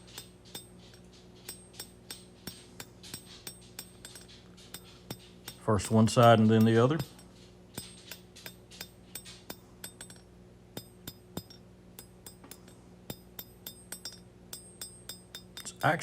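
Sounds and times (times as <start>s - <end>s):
faint steady hum: 0.0s - 16.0s
hammer striking steel on anvil: 0.0s - 16.0s.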